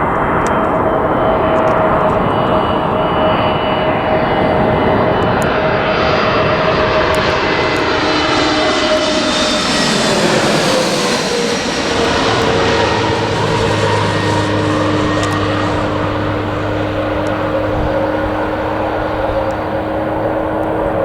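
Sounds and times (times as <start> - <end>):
aircraft engines passing close: 0.0 - 21.0.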